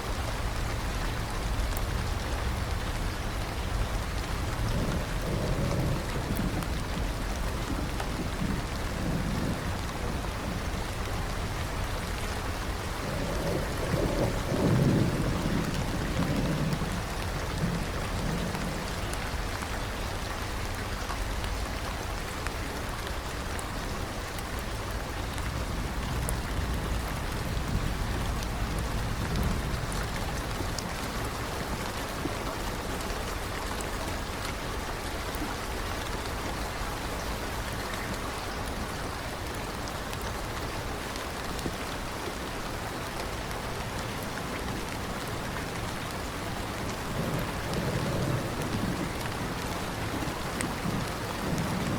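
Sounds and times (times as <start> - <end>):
low thunder rumble: 0.0 - 34.8, 43.3 - 51.9
steady rain falling: 0.0 - 51.9.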